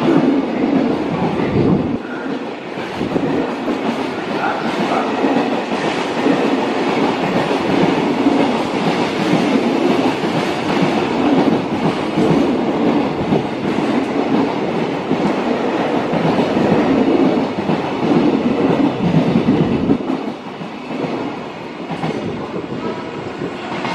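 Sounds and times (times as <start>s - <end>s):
freight train rumbling past: 0.0s - 23.9s.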